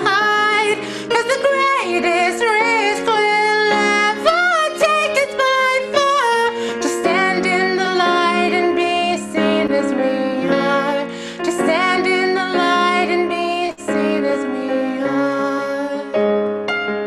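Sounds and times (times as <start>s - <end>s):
woman singing slow song: 0.0s - 16.2s
piano accompaniment: 0.0s - 17.0s.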